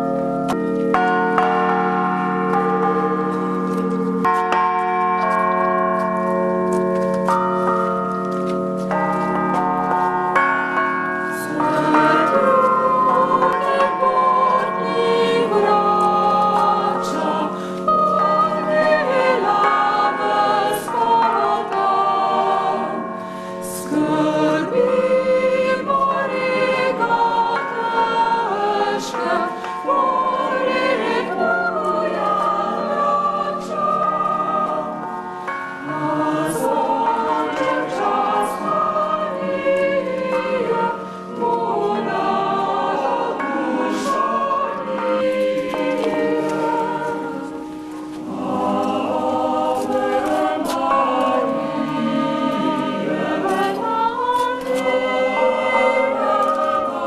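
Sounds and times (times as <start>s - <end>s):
choir singing sacred piece: 0.0s - 57.0s.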